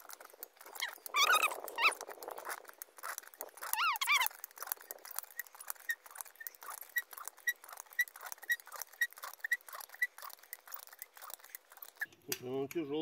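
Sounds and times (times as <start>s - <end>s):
jack squeak: 0.0s - 12.2s.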